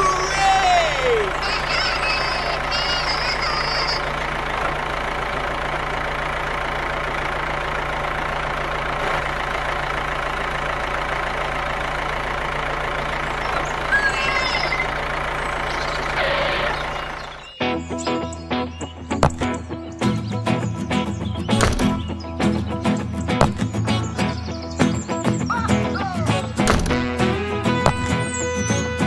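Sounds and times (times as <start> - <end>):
tractor engine idling: 0.0 - 17.6, 18.8 - 29.0.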